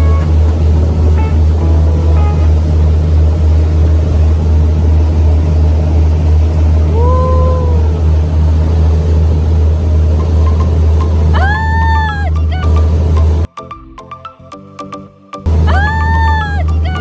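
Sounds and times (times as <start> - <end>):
boat engine drone: 0.0 - 13.5, 15.5 - 17.0.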